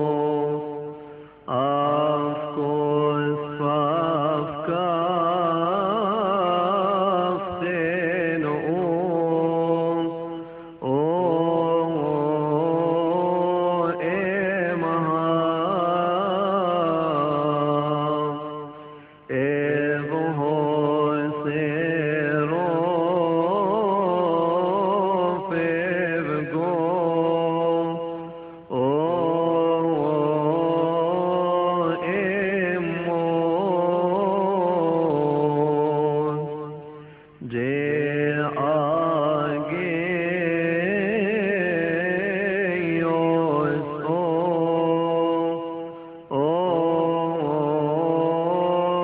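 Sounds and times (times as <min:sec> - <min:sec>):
person chanting a hymn: 0:00.0 - 0:49.0.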